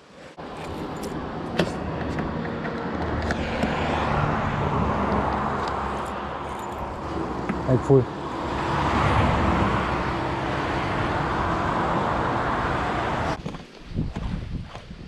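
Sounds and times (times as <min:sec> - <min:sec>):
motor vehicle running: 0:00.4 - 0:13.4.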